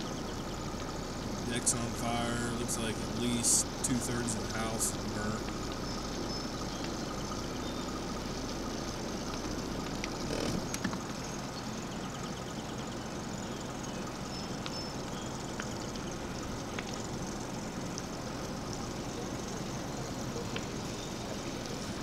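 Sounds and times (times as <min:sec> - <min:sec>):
faint high chirps and ticks: 0:00.0 - 0:22.0
low engine rumble: 0:00.0 - 0:22.0
open-air ambience: 0:00.0 - 0:22.0.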